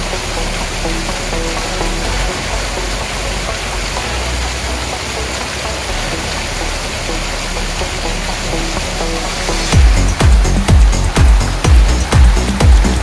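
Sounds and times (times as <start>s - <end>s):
water pouring over weir: 0.0s - 13.0s.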